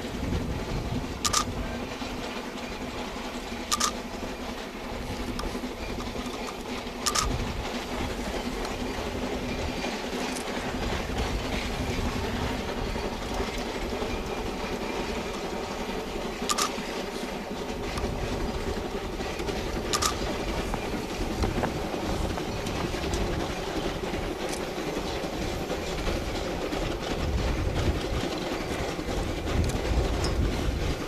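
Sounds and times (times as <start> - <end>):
train rumbling on rails: 0.0 - 31.0
wheels clacking: 0.0 - 31.0.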